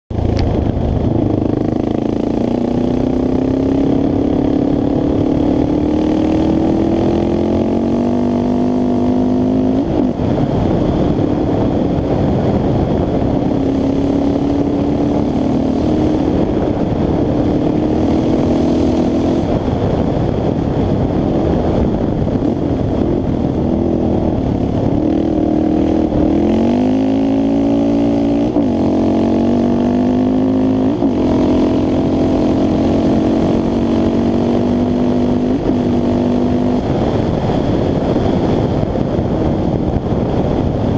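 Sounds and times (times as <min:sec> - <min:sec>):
quad engine accelerating: 0:00.1 - 0:40.9
wind on microphone: 0:00.1 - 0:40.9.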